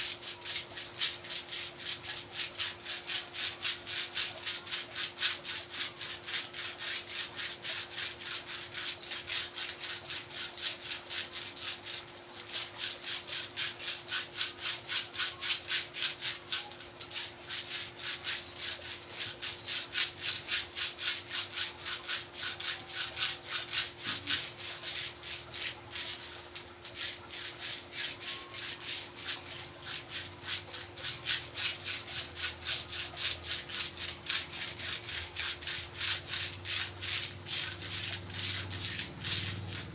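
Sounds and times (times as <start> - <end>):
massage strokes rubbing skin: 0.0 - 39.9.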